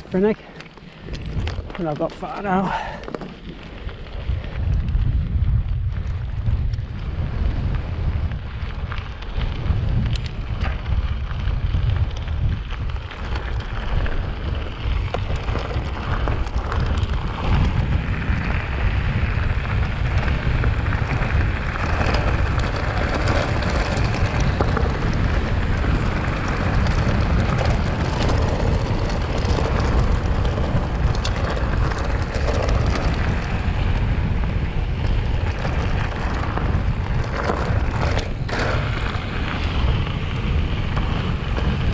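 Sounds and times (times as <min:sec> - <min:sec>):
bike tyres crunching on gravel: 0:00.0 - 0:41.9
wind rumble on microphone: 0:00.0 - 0:41.9.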